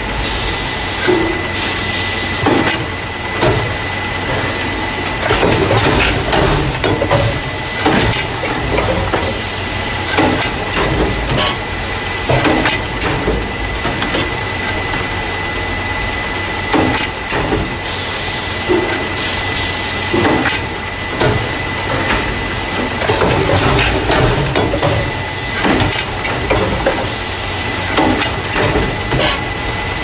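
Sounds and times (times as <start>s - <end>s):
machine hiss: 0.0s - 30.0s
packing machine humming: 0.0s - 30.0s
mechanism clanks and knocks: 2.4s - 15.6s, 16.6s - 17.9s, 20.1s - 30.0s.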